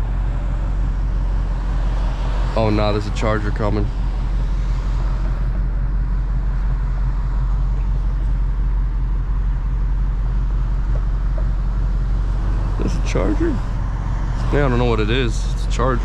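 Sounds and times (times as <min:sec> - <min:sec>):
car engine low drone: 0:00.0 - 0:16.0
tyres on wet road: 0:00.0 - 0:16.0.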